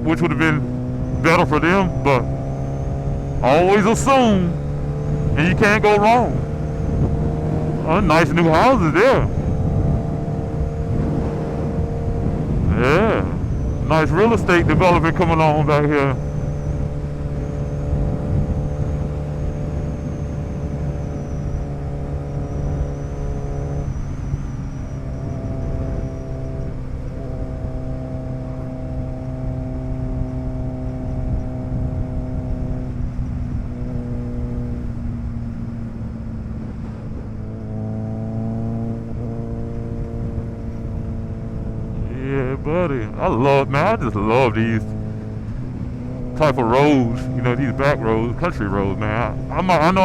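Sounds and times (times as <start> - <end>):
motorcycle engine cruising: 0.0 - 50.0
wind and road noise: 0.0 - 50.0.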